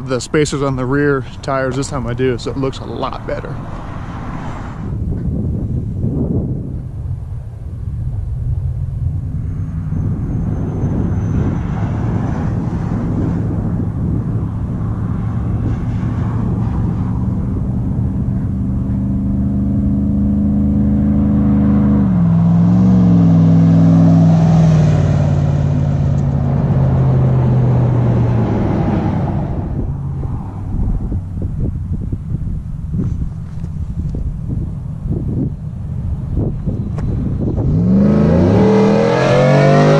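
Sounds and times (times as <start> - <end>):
truck engine exhaust note: 4.8 - 39.9.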